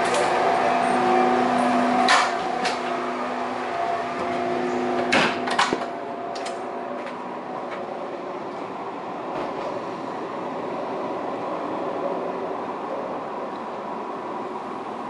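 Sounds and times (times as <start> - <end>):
train carriage hum and ventilation: 0.0 - 15.0.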